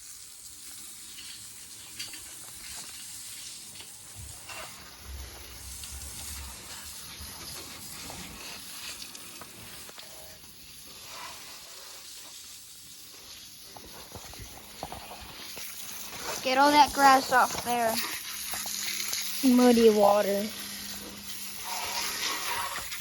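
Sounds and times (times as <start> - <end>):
water spraying on a mower: 0.0 - 23.0.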